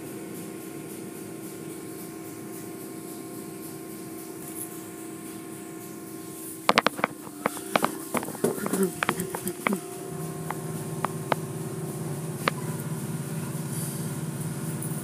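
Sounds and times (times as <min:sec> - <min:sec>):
car wash machinery hum: 0:00.0 - 0:15.0.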